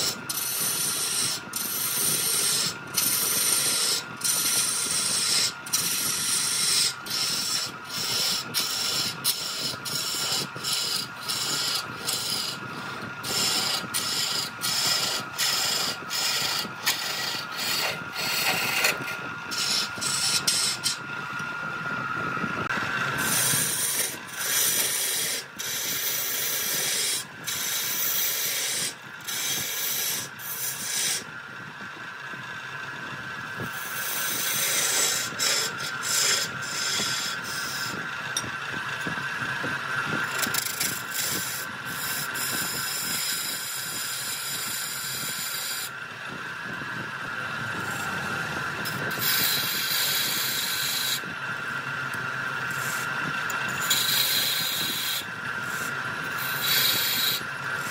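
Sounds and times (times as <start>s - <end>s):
tool scraping spinning wood: 0.0s - 57.9s
wood lathe whining: 0.0s - 57.9s.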